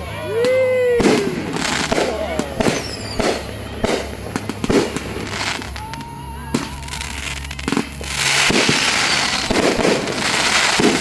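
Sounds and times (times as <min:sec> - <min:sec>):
fireworks crackling: 0:00.0 - 0:11.0
fireworks bangs: 0:00.4 - 0:11.0.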